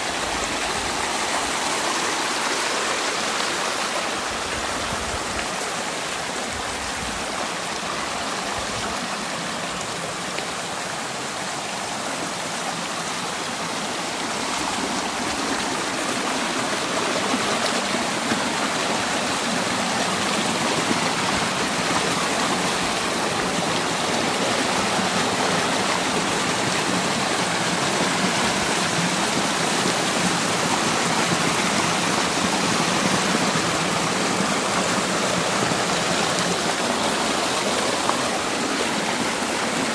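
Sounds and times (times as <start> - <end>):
creek water rushing over boulders: 0.0 - 39.9.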